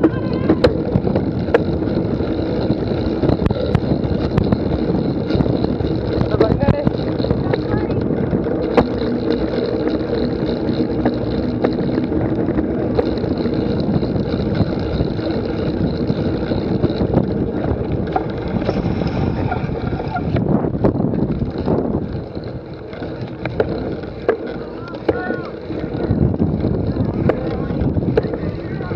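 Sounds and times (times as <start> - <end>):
indistinct voices: 0.0 - 13.5, 14.7 - 28.9
scattered clicks: 0.0 - 28.9
wind rumbling on microphone: 0.0 - 28.9.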